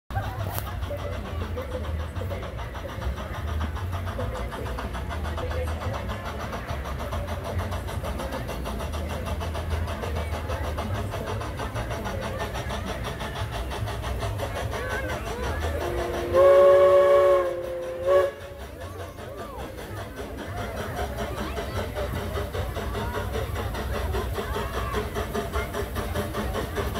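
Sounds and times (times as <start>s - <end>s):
locomotive engine pulsing: 0.1s - 26.9s.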